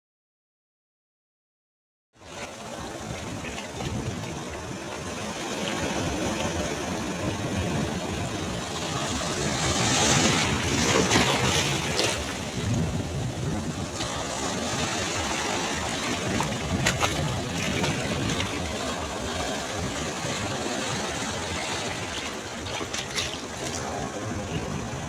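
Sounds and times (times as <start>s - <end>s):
sea waves breaking on shore: 2.2s - 25.0s.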